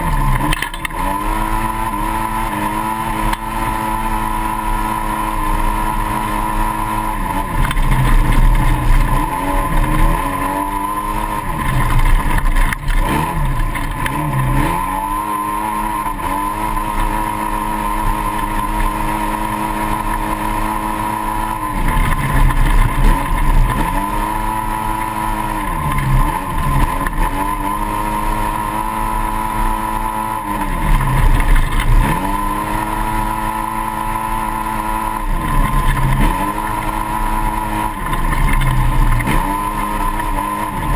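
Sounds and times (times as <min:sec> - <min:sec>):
engine at high revs: 0:00.0 - 0:40.9.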